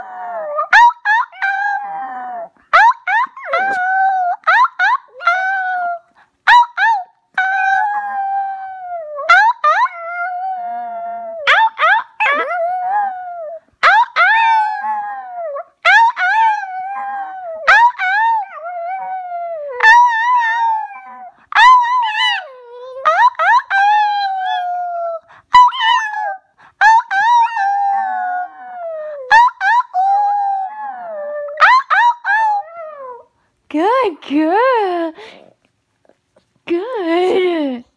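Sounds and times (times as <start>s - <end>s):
small dog howling: 0.0s - 24.9s, 25.5s - 33.3s.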